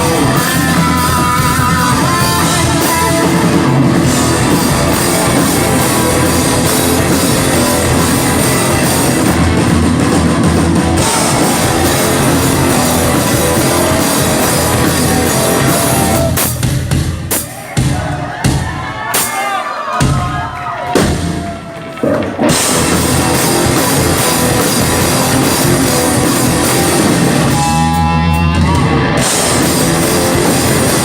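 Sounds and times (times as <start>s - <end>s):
rock band playing loudly: 0.0s - 31.0s.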